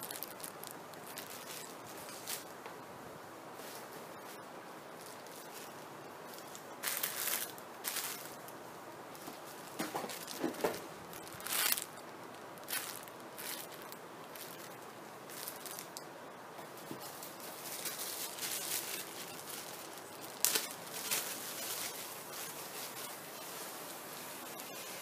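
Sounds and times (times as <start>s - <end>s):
plastic packaging crinkling: 0.0s - 2.5s, 3.6s - 8.5s, 9.1s - 25.0s.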